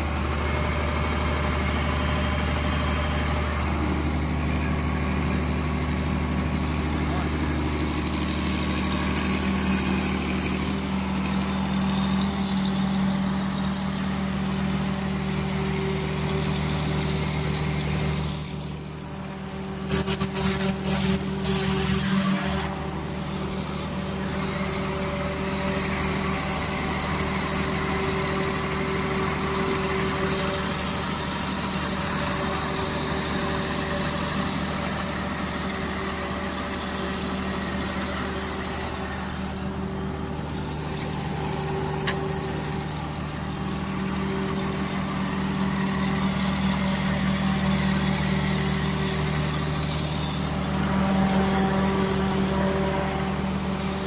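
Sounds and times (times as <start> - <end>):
diesel generator engine running: 0.0 - 54.0.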